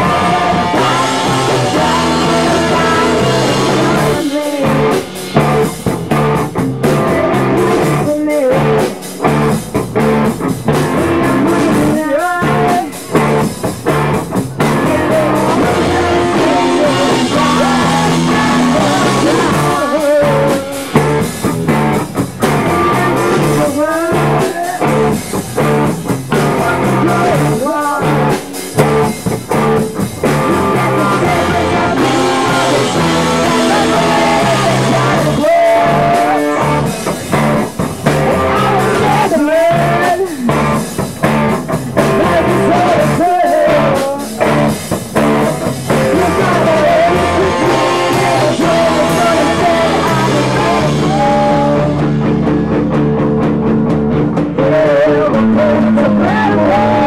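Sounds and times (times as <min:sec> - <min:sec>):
person singing: 0:00.0 - 0:53.1, 0:54.4 - 0:57.0
drum kit with cymbals: 0:00.0 - 0:57.0
electric bass: 0:00.0 - 0:57.0
electric guitar: 0:00.0 - 0:57.0.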